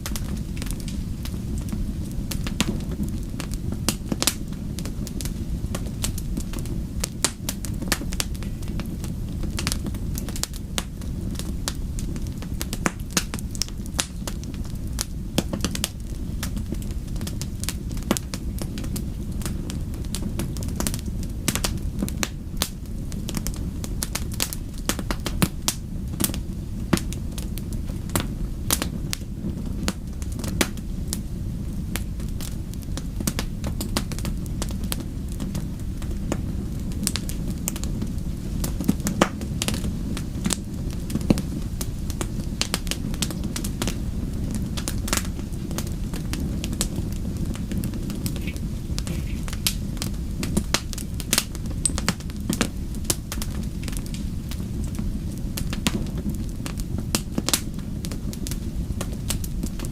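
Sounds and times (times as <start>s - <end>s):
low rush of flames: 0.0s - 59.9s
wood fire crackling and popping: 0.0s - 59.9s.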